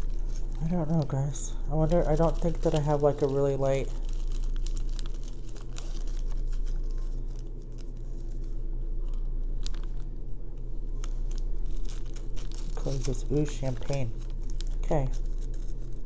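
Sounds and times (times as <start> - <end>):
plastic bags crinkling: 0.0 - 16.0
steady low hum: 0.0 - 16.0.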